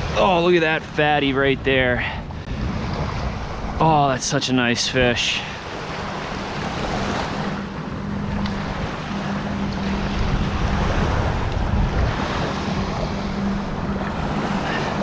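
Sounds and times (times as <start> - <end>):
small waves on sandy beach: 0.0 - 15.0
wind buffeting microphone: 0.0 - 15.0.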